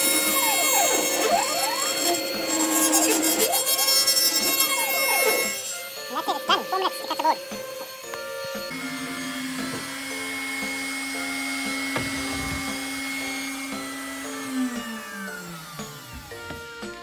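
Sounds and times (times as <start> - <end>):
router spindle whine: 0.0 - 17.0.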